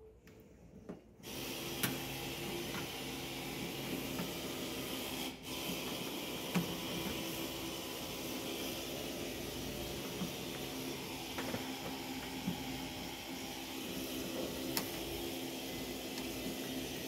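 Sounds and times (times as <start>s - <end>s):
machine hum and hiss: 1.2s - 17.0s.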